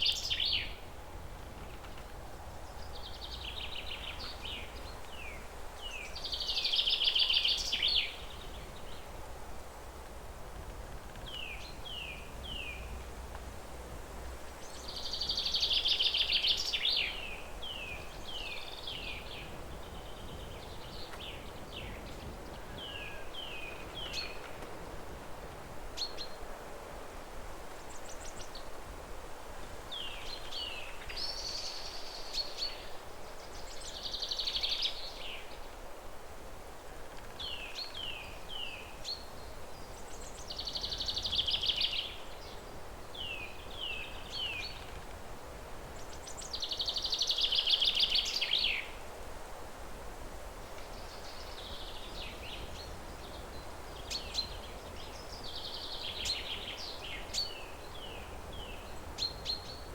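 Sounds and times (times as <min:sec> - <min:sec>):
songbirds singing: 0:00.0 - 0:09.2, 0:11.1 - 0:13.5, 0:14.2 - 0:24.8, 0:29.9 - 0:35.8, 0:36.9 - 0:49.1, 0:50.6 - 0:59.9
leaves rustling in wind: 0:00.0 - 0:59.9.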